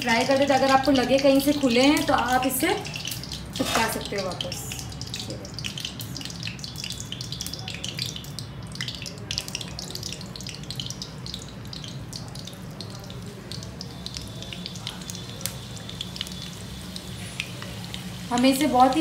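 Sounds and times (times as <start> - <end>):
deep-frying sizzle with crackles: 0.0 - 19.0.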